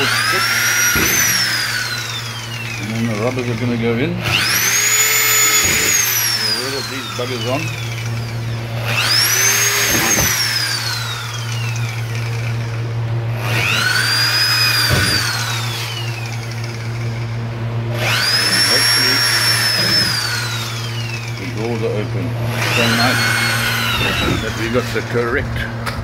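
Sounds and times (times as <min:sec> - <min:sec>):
electric drill motor whine: 0:00.0 - 0:26.0
steady low hum: 0:00.0 - 0:26.0.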